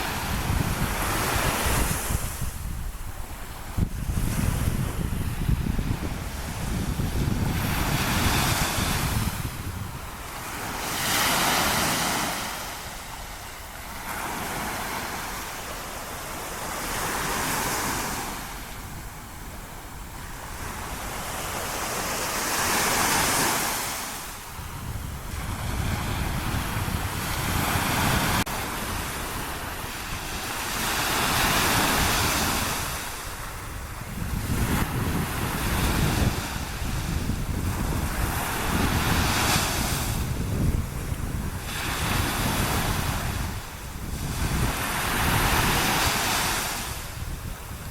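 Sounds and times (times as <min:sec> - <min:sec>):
small waves breaking on sand: 0:00.0 - 0:47.9
wind gusting on microphone: 0:00.0 - 0:47.9.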